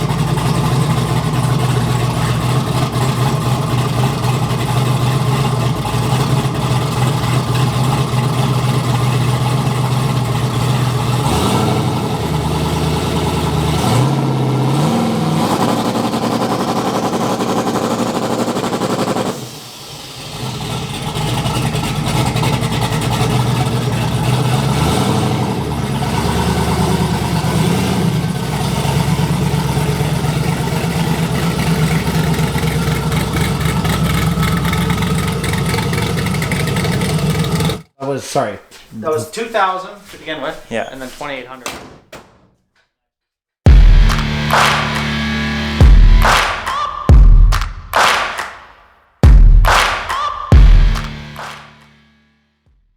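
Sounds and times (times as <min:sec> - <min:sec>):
car engine revving: 0:00.0 - 0:37.9, 0:43.7 - 0:52.2.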